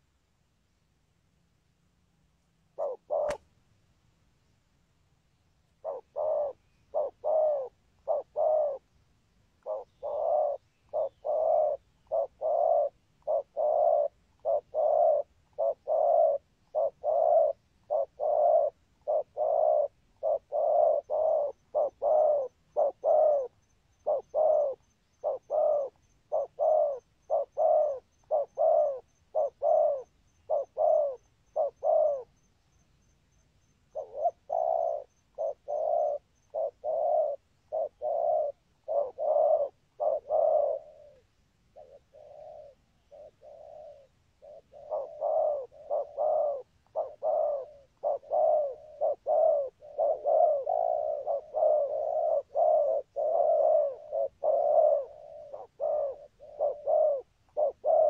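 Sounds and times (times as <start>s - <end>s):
dove cooing: 2.7s - 3.5s, 5.8s - 9.0s, 9.6s - 32.5s, 33.9s - 58.0s.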